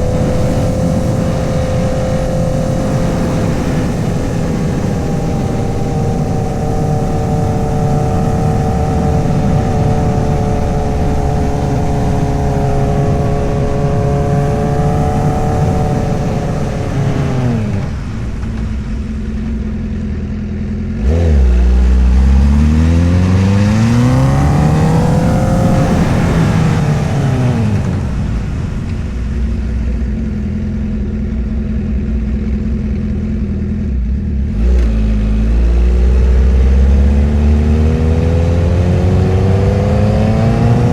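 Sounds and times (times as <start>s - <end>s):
motorcycle engine and exhaust revving: 0.0s - 40.9s.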